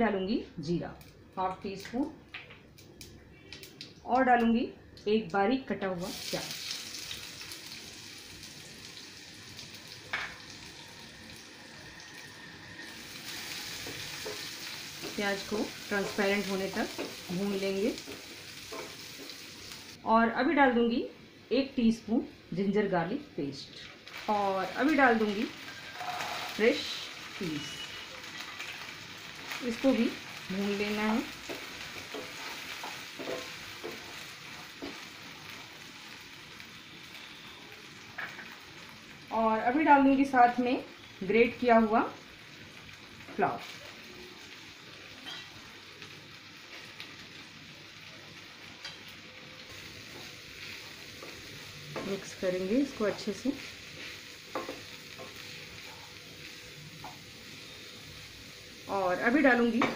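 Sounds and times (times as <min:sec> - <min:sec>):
onion sizzling in oil: 0:05.4 - 0:59.9.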